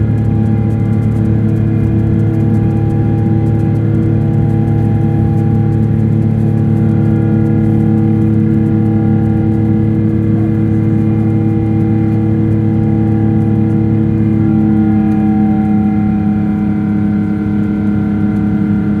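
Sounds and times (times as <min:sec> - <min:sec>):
airplane cabin engine drone: 0:00.0 - 0:19.0.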